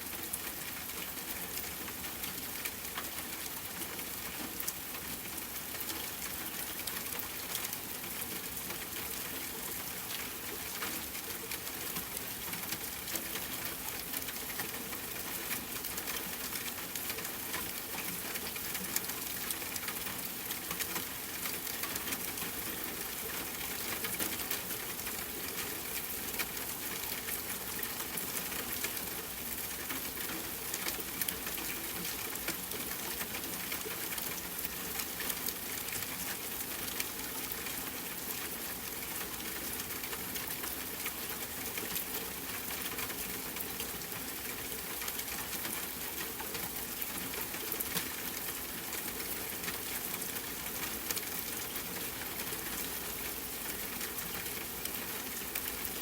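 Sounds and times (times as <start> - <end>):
rain pattering on a tent: 0.0 - 56.0.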